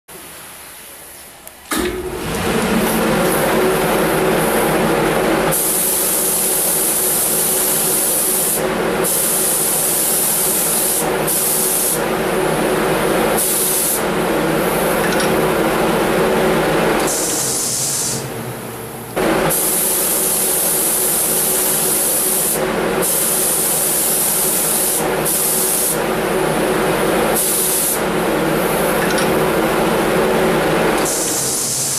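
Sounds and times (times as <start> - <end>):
steady hum: 0.1 - 31.9
spray gun hissing: 2.3 - 15.6, 17.0 - 18.3, 19.1 - 30.0, 30.7 - 31.9.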